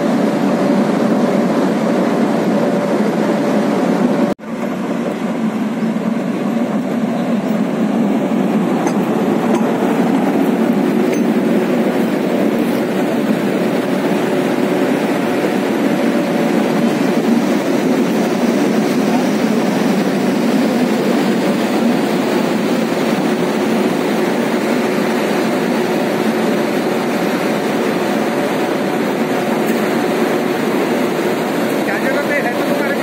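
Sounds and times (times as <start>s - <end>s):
locomotive running on rails: 0.0s - 33.0s.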